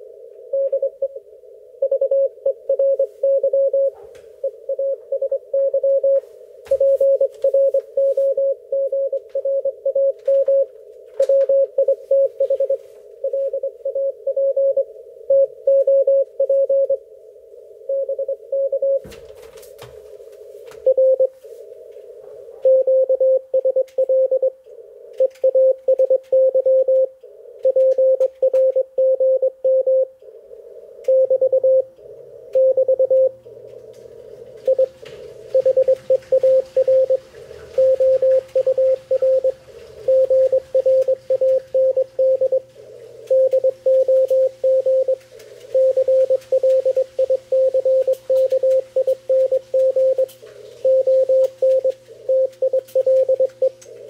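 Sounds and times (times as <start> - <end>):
radio band noise hiss: 0.0 - 28.9, 30.0 - 54.0
faint low hum: 0.0 - 54.0
morse code beeps: 0.5 - 1.2, 1.8 - 17.0, 17.9 - 19.0, 20.8 - 21.4, 22.6 - 24.6, 25.2 - 30.1, 31.1 - 31.9, 32.6 - 33.4, 34.7 - 37.2, 37.8 - 42.7, 43.3 - 53.8.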